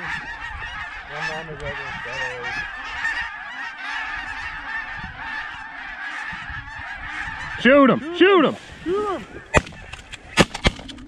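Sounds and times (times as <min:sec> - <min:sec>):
low loud goose honks: 0:00.0 - 0:10.5
geese honking and cackling: 0:00.0 - 0:11.0.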